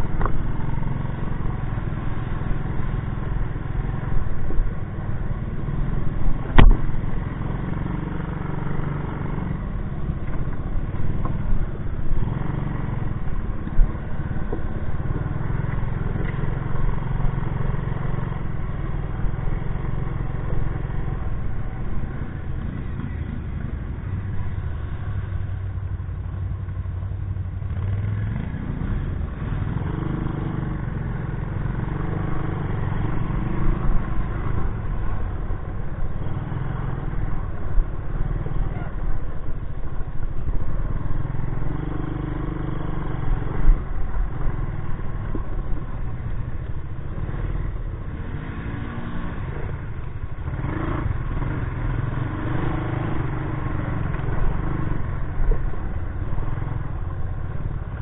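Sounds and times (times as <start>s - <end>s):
three-wheeler engine running: 0.0s - 58.0s.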